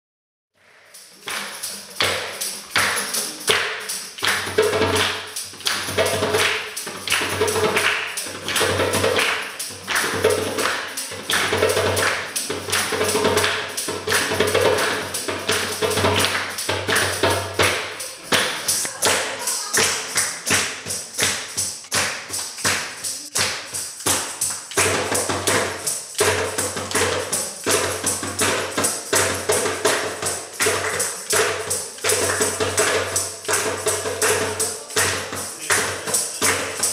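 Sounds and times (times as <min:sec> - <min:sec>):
hands clapping: 0:00.6 - 0:36.9
tambourine jingles: 0:00.6 - 0:36.9
hand drum slapped: 0:01.3 - 0:36.9.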